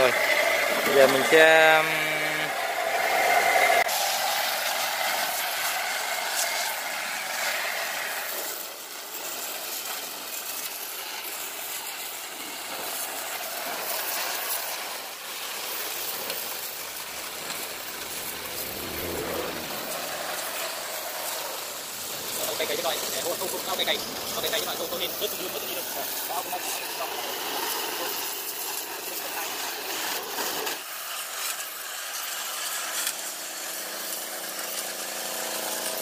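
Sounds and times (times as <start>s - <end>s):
sandblaster spray hissing: 0.0s - 36.0s.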